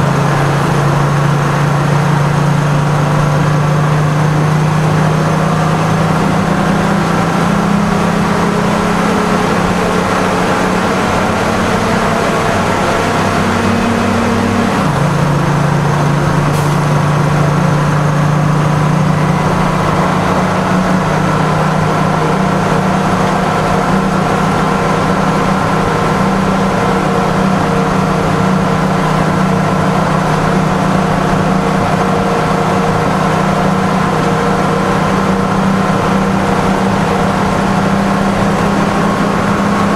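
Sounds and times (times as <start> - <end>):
diesel truck engine from inside cab: 0.0 - 39.9.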